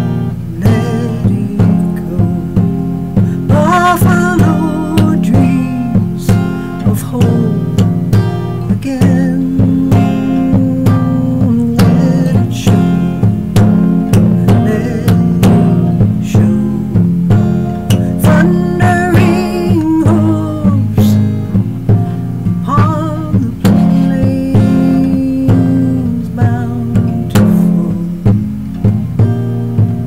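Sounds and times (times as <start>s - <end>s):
woman singing with vibrato: 0.0s - 28.5s
plucked acoustic guitar: 0.0s - 30.0s.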